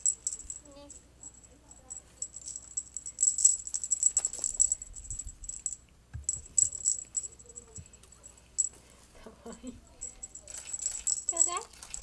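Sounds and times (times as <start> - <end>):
cat toy jingling and rattling: 0.0 - 8.8, 9.8 - 12.0.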